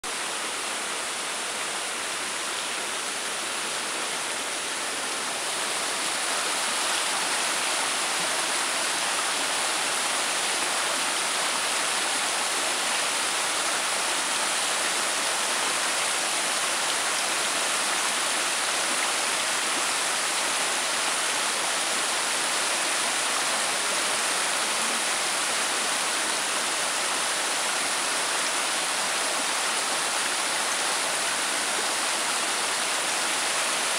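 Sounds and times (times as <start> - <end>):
creek rushing over stones: 0.1 - 33.9.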